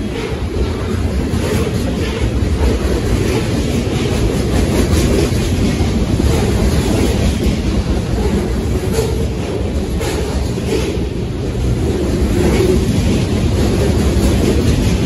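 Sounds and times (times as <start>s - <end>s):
train wheels rumbling on rail: 0.0s - 15.0s
wheels clicking over rail joints: 0.0s - 15.0s.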